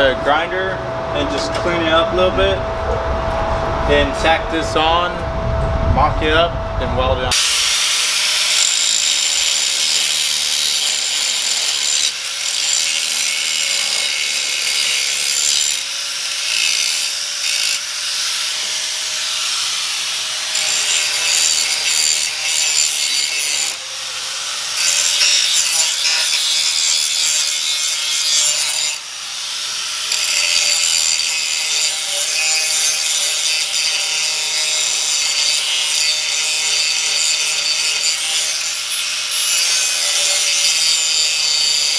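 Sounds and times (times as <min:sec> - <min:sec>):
angle grinder on metal: 0:00.0 - 0:05.4, 0:06.0 - 0:41.9.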